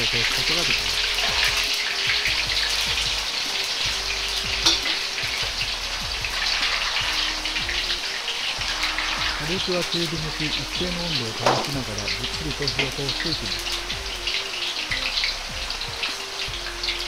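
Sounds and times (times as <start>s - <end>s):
potatoes deep-frying in oil: 0.0s - 17.0s.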